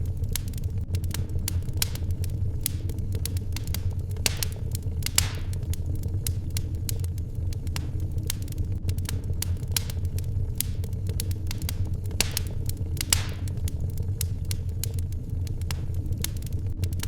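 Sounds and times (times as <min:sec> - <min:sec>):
fire low roar: 0:00.0 - 0:17.0
wood fire crackling: 0:00.0 - 0:17.0.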